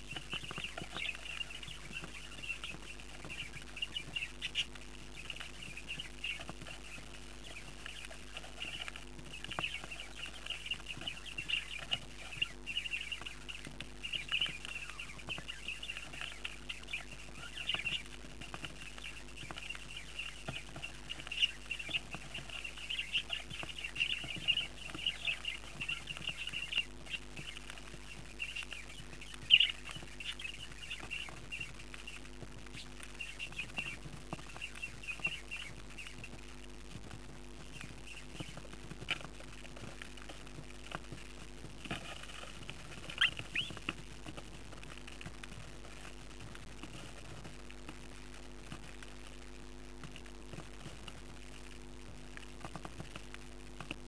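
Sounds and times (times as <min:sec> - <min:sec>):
chicks begging chirps: 0:00.0 - 0:49.4
steady low hum: 0:00.0 - 0:54.0.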